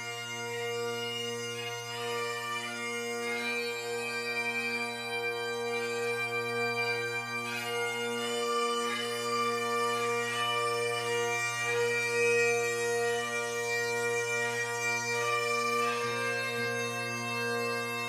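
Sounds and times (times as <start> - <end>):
bagpipe drones: 0.0 - 18.0
bagpipes playing slow melody: 0.0 - 18.0.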